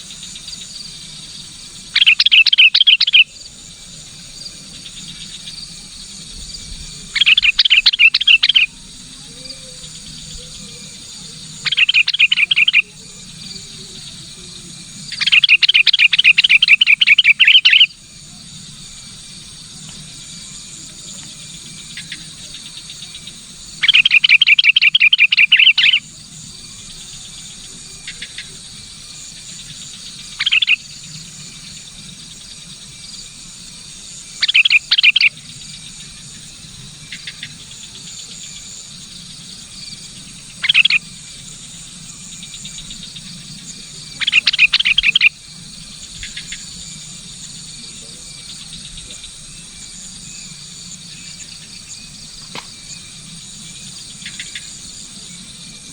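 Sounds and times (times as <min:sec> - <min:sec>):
bulbul chattering calls: 0:00.0 - 0:05.5, 0:07.0 - 0:18.6, 0:21.8 - 0:32.2, 0:34.2 - 0:39.2, 0:40.0 - 0:41.3, 0:42.3 - 0:55.9
high insect chorus: 0:00.0 - 0:55.9.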